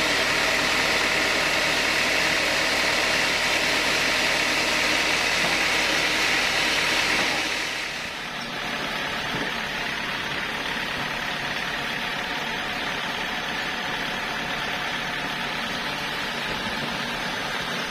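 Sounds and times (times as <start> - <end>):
saw blade whining through wood: 0.0 - 17.9
sawmill machine running: 0.0 - 17.9.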